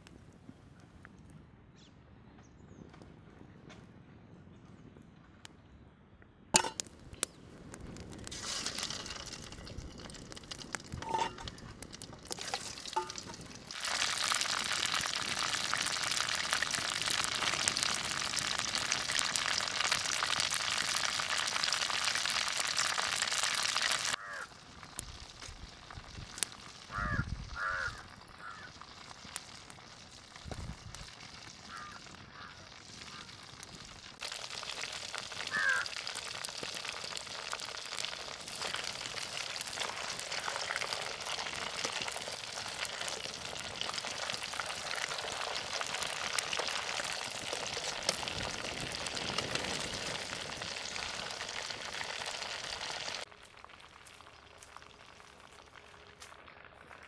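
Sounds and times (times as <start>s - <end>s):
oil sizzling and crackling: 6.6s - 57.0s.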